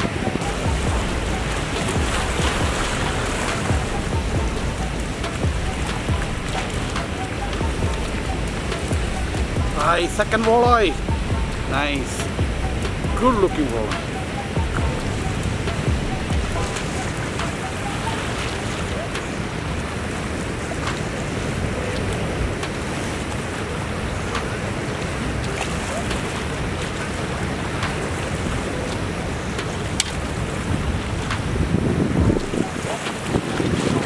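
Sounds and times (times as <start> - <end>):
lake water washing: 0.0 - 34.0
wind buffeting microphone: 0.0 - 34.0.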